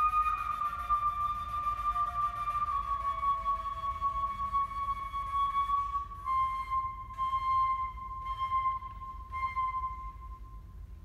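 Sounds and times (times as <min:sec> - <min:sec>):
flute holding long notes: 0:00.0 - 0:11.0.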